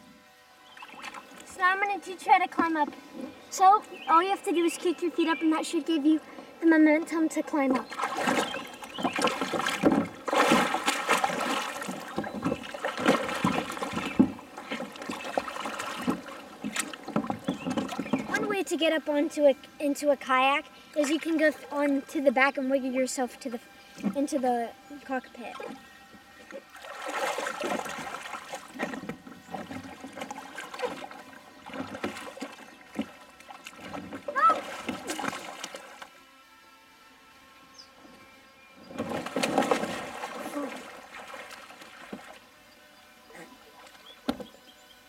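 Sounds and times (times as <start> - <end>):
water splashing and sloshing: 0.6 - 36.4, 38.8 - 44.6.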